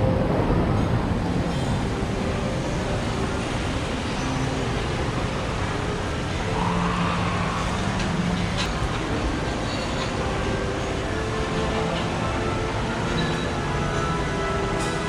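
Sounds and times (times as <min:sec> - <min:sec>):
shopping mall background rumble: 0:00.0 - 0:15.0.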